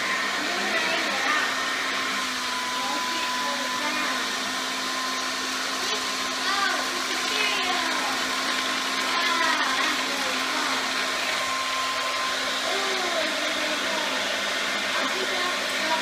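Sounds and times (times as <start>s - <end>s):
vacuum cleaner whirring: 0.0s - 16.0s.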